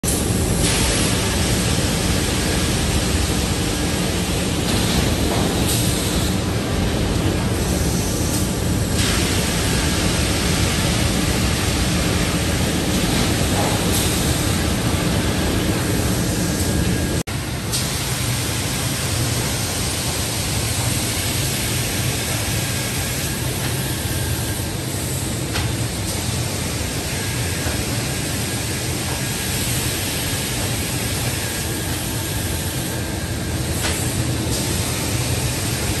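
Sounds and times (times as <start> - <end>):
production machinery hissing: 0.1 - 36.0.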